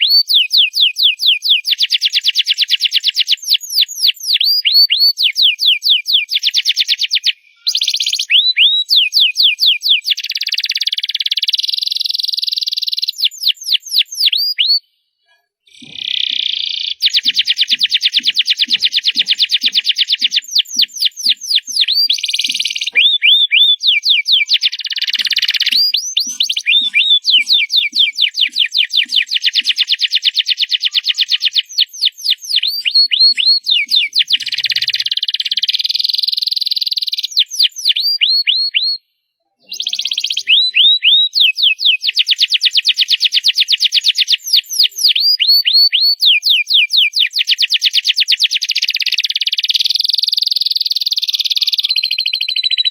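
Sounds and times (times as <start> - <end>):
canary singing trills: 0.0 - 14.9, 15.7 - 39.0, 39.6 - 52.9.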